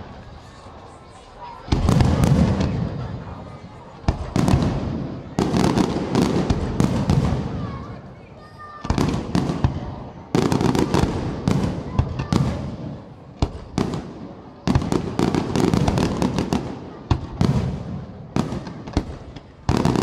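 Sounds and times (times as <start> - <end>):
fireworks bangs and cracks: 1.5 - 20.0.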